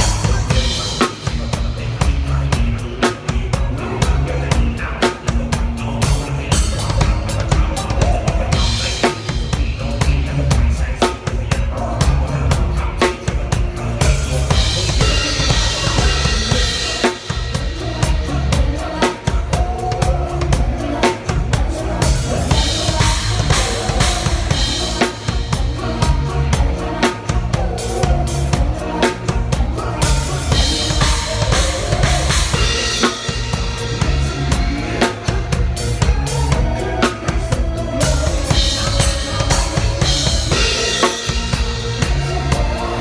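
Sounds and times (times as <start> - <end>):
drum kit steady beat: 0.0 - 43.0
recorded backing track: 0.0 - 43.0.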